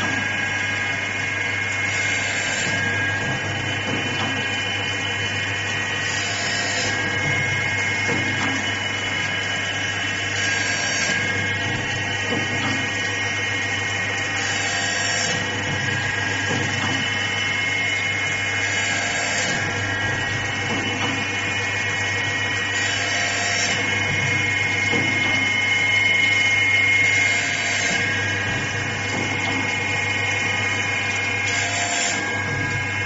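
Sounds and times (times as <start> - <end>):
sharpening machine motor whine: 0.0 - 3.8, 4.4 - 33.0.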